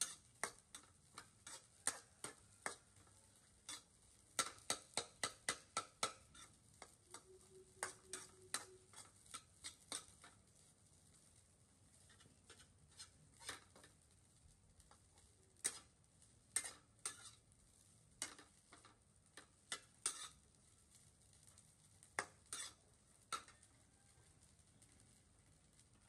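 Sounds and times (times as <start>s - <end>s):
metal spatula scraping a pan: 0.0s - 14.2s, 14.8s - 23.8s.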